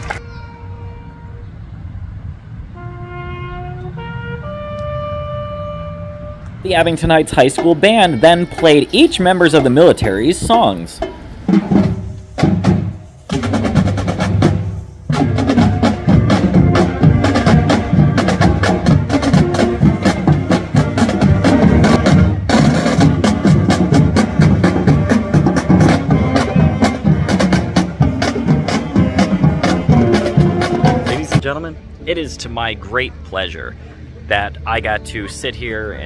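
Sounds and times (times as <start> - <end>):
marching band melody: 2.7 - 32.8.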